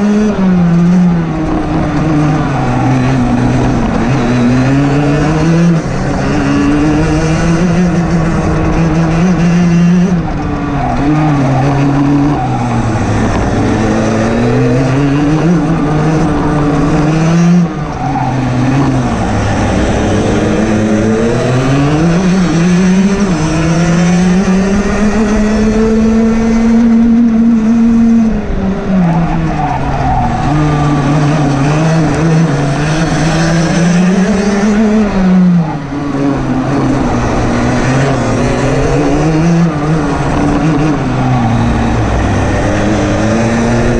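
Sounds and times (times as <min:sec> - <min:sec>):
kart engine racing: 0:00.0 - 0:43.9.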